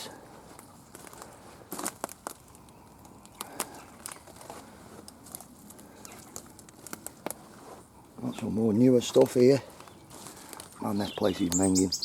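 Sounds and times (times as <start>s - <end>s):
footsteps on leaves and twigs: 0.3s - 8.5s, 9.2s - 11.6s.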